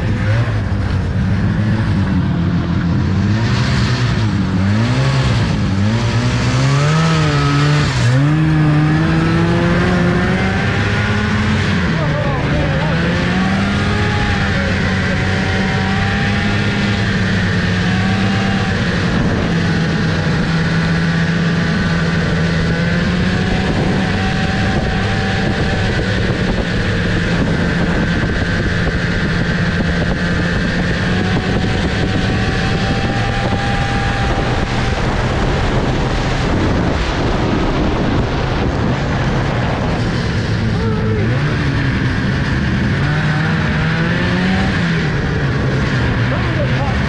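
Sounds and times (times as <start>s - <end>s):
snowmobile engine cruising: 0.0s - 47.0s.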